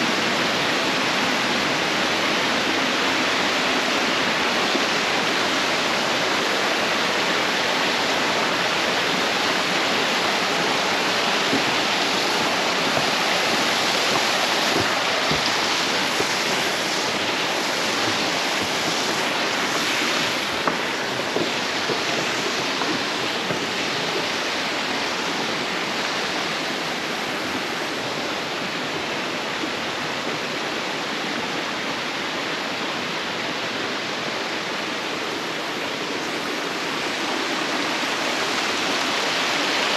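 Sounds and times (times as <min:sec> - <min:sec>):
water rushing in gorge: 0:00.0 - 0:39.9.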